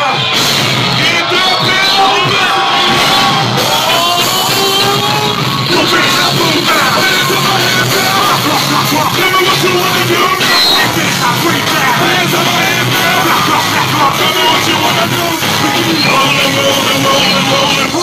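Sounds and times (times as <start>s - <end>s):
live concert music with vocals: 0.0s - 18.0s.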